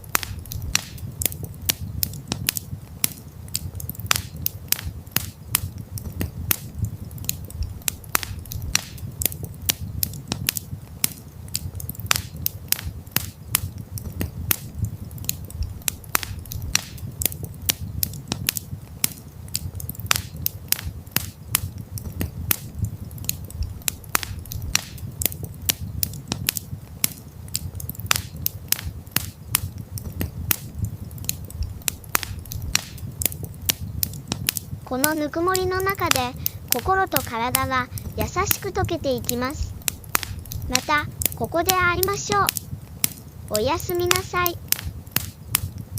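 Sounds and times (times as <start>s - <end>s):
campfire crackling and popping: 0.0s - 45.9s
low rumble of burning fire: 0.0s - 45.9s.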